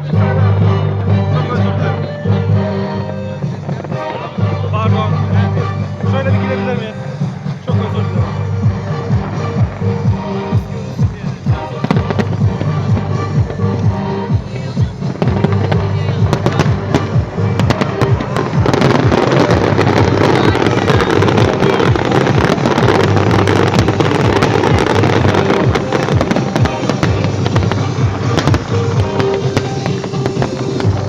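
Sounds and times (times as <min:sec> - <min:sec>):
fireworks bangs and crackles: 0:00.0 - 0:31.0
music playing: 0:00.0 - 0:31.0.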